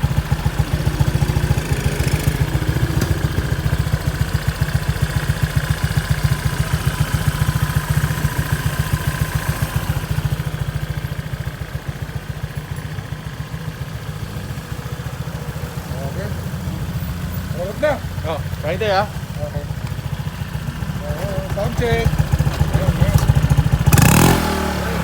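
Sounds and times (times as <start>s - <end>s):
scooter engine idling: 0.0s - 25.0s.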